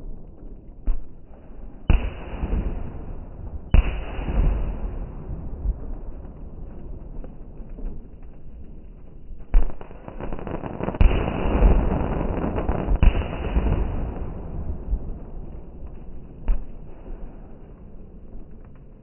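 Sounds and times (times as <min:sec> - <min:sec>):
fireworks bangs: 0:00.0 - 0:17.8
fireworks crackling: 0:00.0 - 0:19.0.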